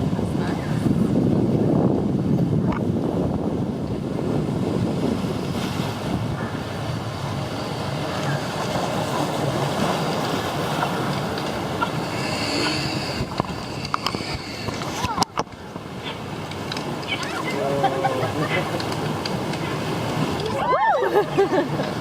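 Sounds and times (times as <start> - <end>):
churning water rushing: 0.0 - 22.0
wind on microphone: 0.0 - 22.0.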